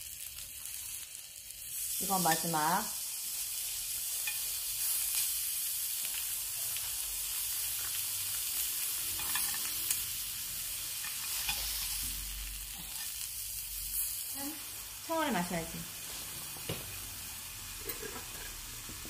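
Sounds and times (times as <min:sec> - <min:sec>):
meat sizzling on grill pan: 0:00.0 - 0:19.0.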